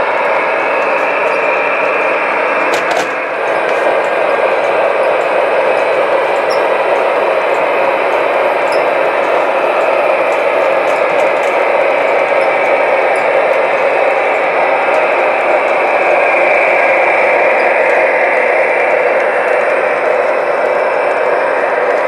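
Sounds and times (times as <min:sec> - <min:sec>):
model train whirring and rolling: 0:00.0 - 0:22.0.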